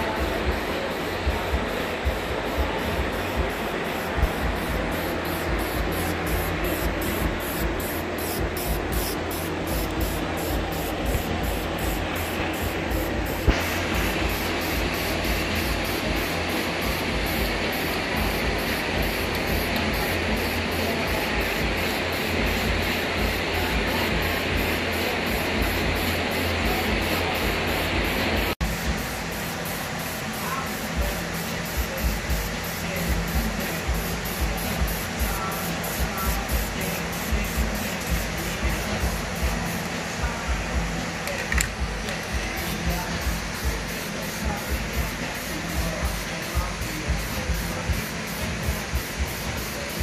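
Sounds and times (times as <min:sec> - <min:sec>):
aerosol spray can spraying: 0:00.0 - 0:50.0.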